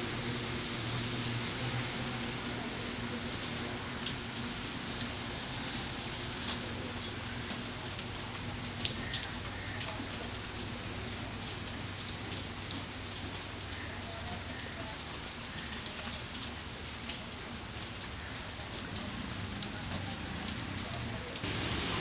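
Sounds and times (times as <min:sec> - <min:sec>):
steady rain hiss: 0:00.0 - 0:22.0
raindrop ticks: 0:01.4 - 0:21.8.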